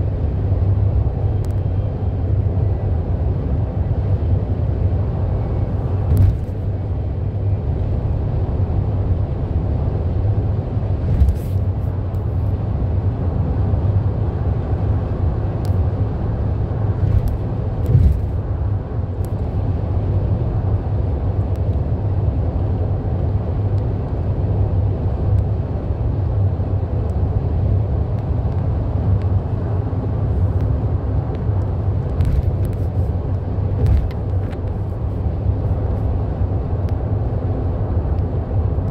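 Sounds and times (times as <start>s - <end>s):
car road and tyre noise: 0.0s - 38.9s
engine drone: 0.0s - 38.9s.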